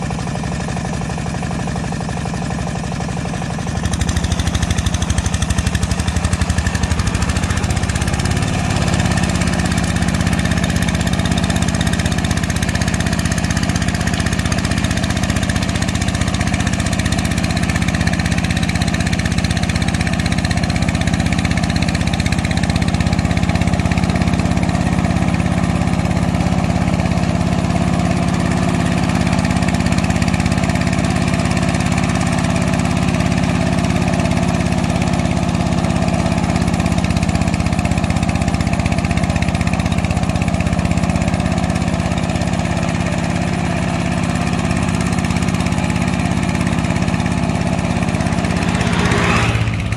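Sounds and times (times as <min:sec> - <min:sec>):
hand tractor engine running: 0:00.1 - 0:49.9.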